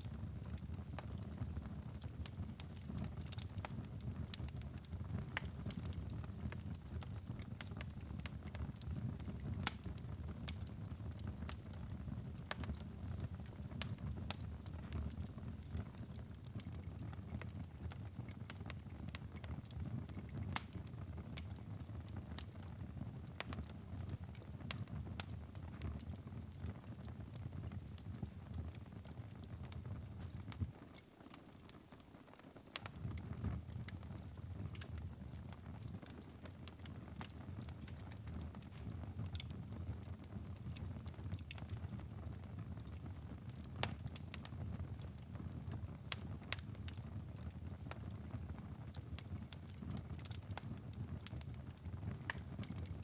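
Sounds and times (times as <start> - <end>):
low rumble of flames: 0.0 - 30.8, 32.8 - 53.0
wood fire crackling: 0.0 - 53.0.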